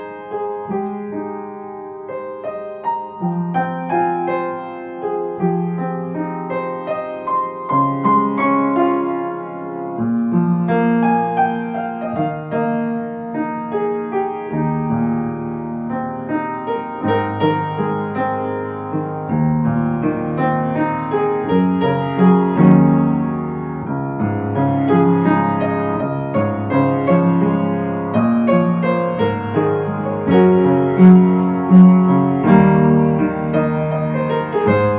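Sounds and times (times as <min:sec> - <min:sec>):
slow solo piano music: 0:00.0 - 0:34.9.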